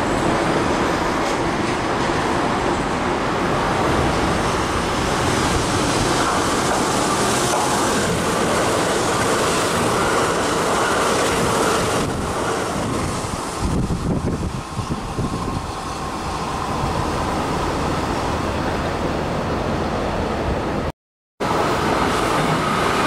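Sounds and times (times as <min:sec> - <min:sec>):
electric train passing: 0:00.0 - 0:23.0
train wheels on rails: 0:00.0 - 0:23.0.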